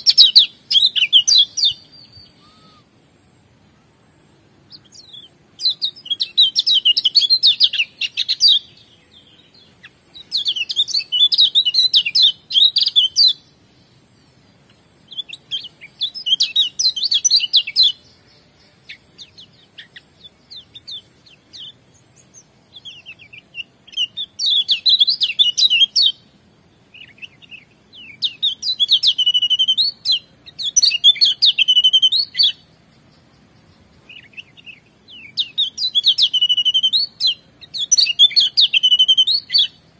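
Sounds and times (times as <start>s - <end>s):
bird twittering song: 0.0s - 3.0s, 3.7s - 39.9s.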